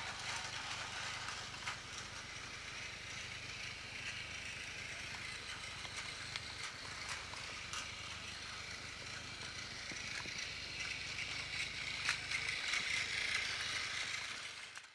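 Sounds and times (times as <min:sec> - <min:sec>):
toy train motor whirring: 0:00.0 - 0:14.9.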